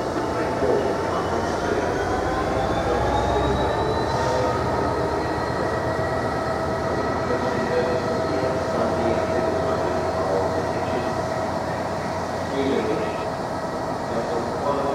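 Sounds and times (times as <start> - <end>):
faint wheel whining: 0.0 - 14.9
freight train wheels rumbling: 0.0 - 14.9.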